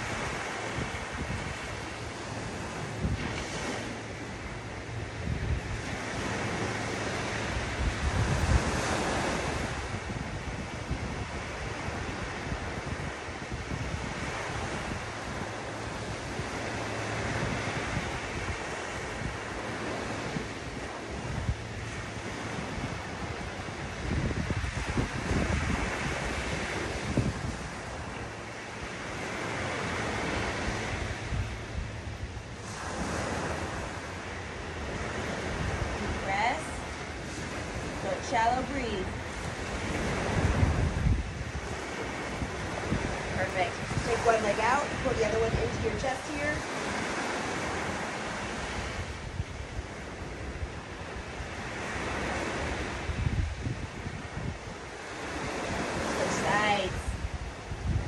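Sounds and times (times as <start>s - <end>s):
ocean surf washing: 0.0s - 58.0s
wind buffeting microphone: 0.0s - 58.0s.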